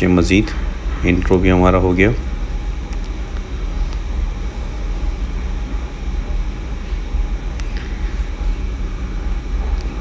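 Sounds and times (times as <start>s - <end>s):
air conditioner rumble: 0.0s - 10.0s.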